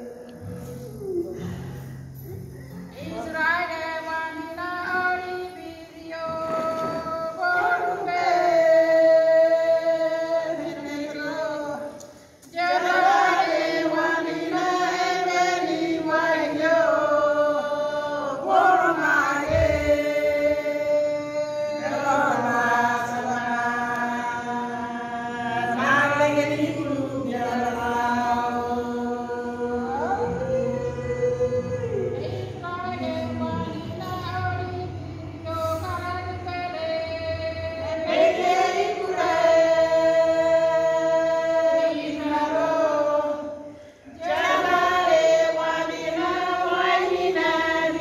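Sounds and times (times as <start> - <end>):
women singing a church song: 0.0 - 48.0.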